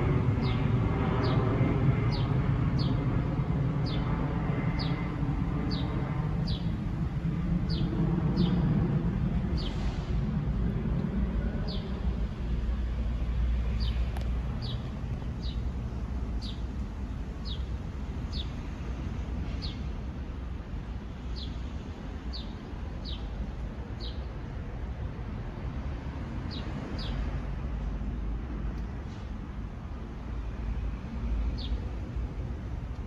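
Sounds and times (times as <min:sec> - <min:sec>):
jet airliner rumbling overhead: 0:00.0 - 0:33.0.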